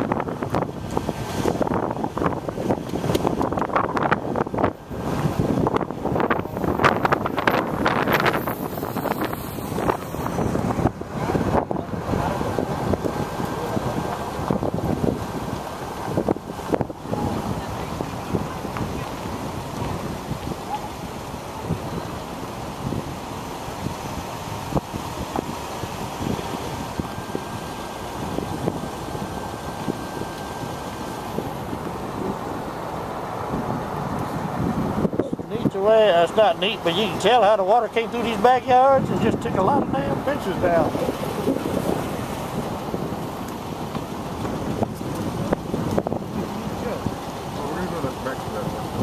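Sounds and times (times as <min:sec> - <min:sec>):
car engine and tyre noise: 0:00.0 - 0:49.0
vehicle road noise: 0:00.0 - 0:49.0
wind buffeting microphone: 0:00.0 - 0:49.0.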